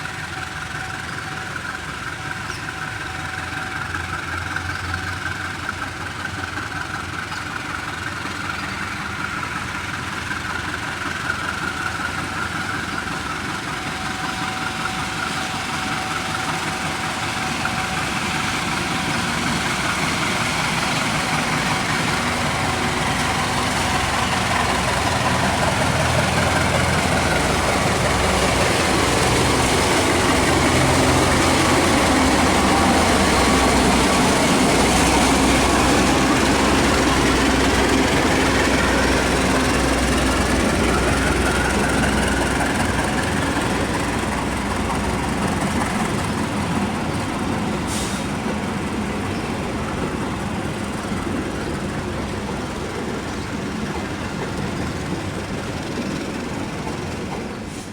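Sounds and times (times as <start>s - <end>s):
diesel train engine drone: 0.0s - 57.9s.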